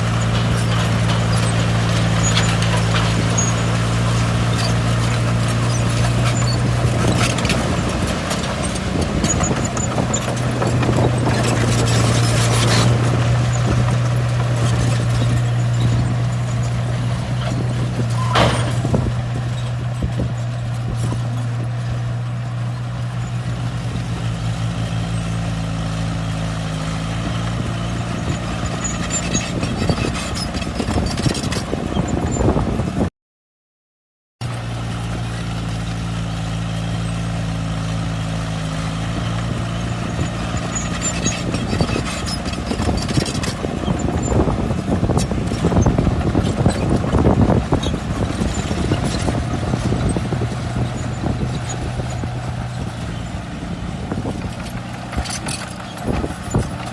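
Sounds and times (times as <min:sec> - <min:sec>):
bulldozer diesel engine running: 0:00.0 - 0:33.1, 0:34.4 - 0:56.9
tracks clanking and scraping: 0:00.0 - 0:33.1, 0:34.4 - 0:56.9.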